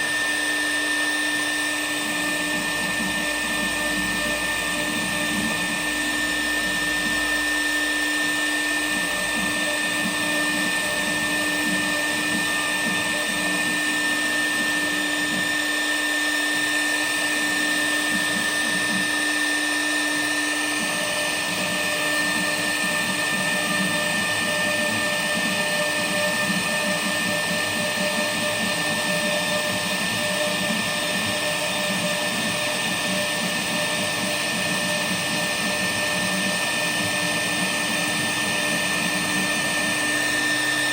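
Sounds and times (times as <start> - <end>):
machine hum: 0.0 - 40.9
router spindle whine: 0.0 - 40.9.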